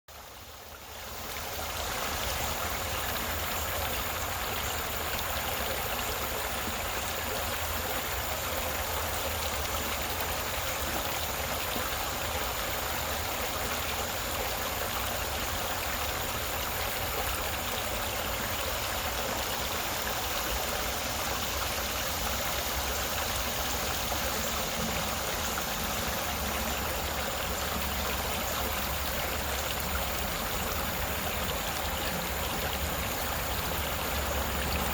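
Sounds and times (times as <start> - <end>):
creek babbling over stones: 0.1 - 34.9.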